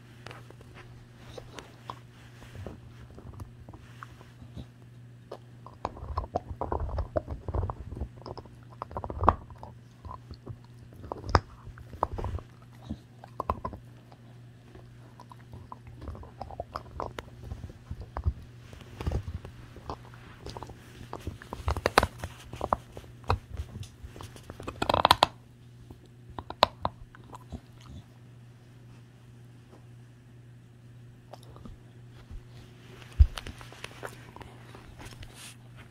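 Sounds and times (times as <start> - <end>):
dog chewing a bone: 0.2 - 28.1, 31.3 - 35.9.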